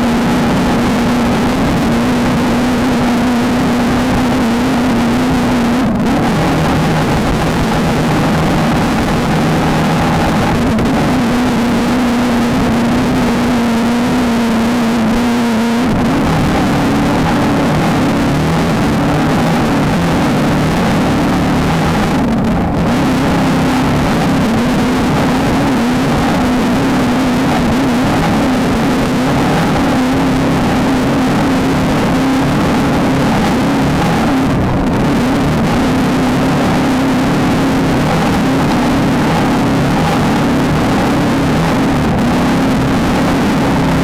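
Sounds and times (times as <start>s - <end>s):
constant rushing noise: 0.0s - 44.0s
race car engine running hard: 0.0s - 44.0s.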